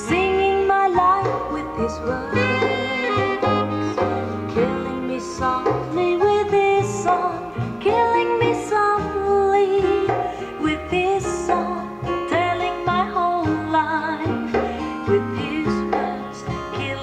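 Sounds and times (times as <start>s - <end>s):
person singing: 0.0s - 17.0s
song through a speaker: 0.0s - 17.0s
stepping bass line: 0.0s - 17.0s.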